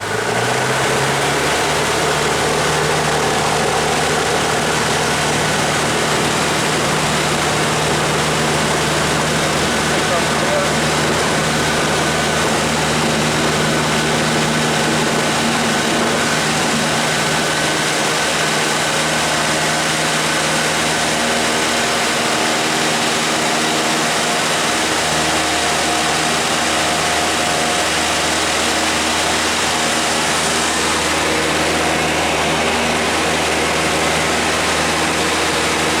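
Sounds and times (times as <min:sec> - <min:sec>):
airplane engine and propeller drone: 0:00.0 - 0:36.0.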